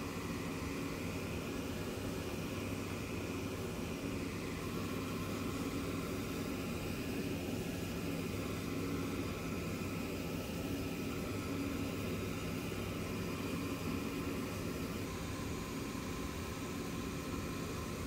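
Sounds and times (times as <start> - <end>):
machine motor hum with whirring wheel: 0.0 - 18.0.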